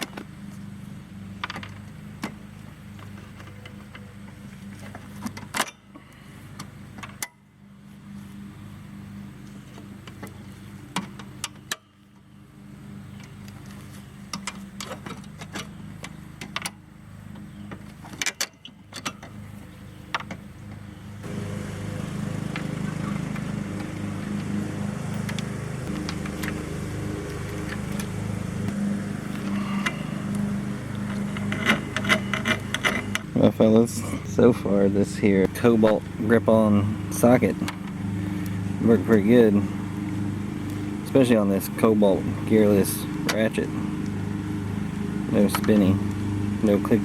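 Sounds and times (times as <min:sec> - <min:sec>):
motor hum: 0:00.0 - 0:47.0.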